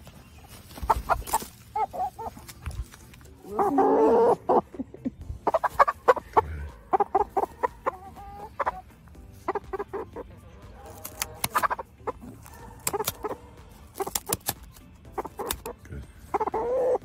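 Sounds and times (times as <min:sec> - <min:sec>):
chicken clucking: 0:00.0 - 0:17.0.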